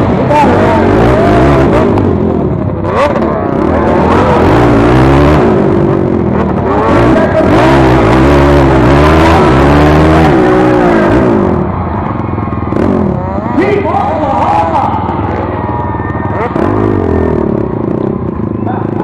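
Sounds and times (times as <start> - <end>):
quad engines revving: 0.0 - 19.0.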